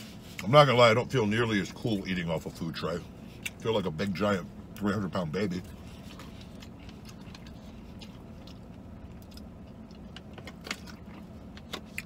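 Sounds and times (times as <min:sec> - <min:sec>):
vehicle cabin hum: 0:00.0 - 0:12.0.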